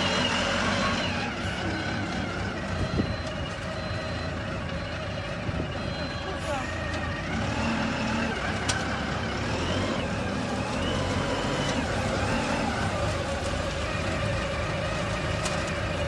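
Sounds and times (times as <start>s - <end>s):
diesel truck engine driving past: 0.0s - 16.0s.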